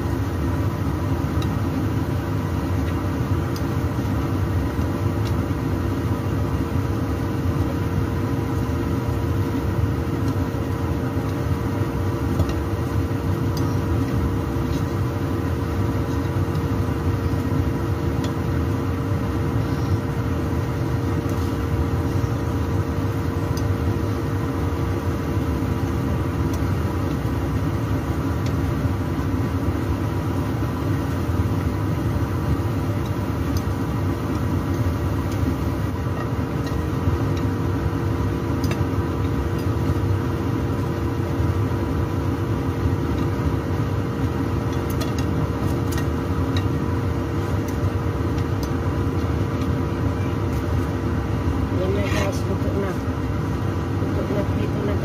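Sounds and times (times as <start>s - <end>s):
motor hum: 0.0s - 55.0s.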